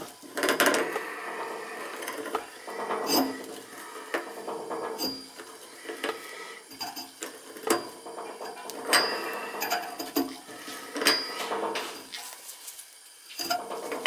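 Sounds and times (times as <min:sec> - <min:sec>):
pipe wrenches scraping metal: 0:00.0 - 0:12.2, 0:13.4 - 0:14.0.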